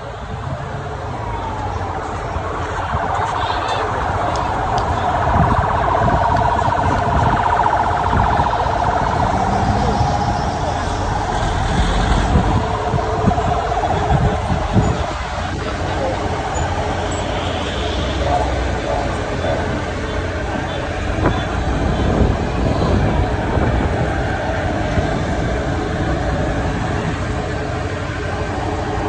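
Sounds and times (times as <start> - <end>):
low rumble of vehicles: 0.0 - 29.0
warbling siren: 0.9 - 29.0.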